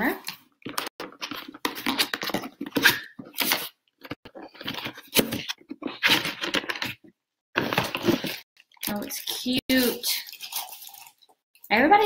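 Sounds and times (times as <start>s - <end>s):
packaging rustling and crinkling: 0.7s - 7.0s, 7.6s - 11.3s.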